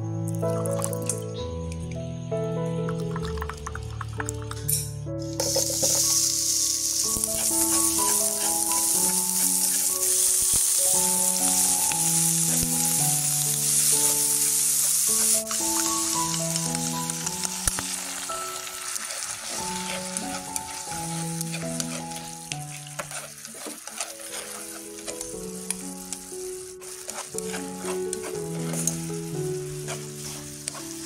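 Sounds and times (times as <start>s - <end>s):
background music: 0.0s - 31.0s
food sizzling in hot oil: 5.3s - 31.0s.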